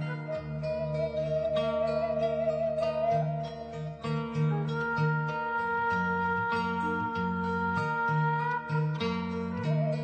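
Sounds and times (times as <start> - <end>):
plucked string melody: 0.0 - 10.0.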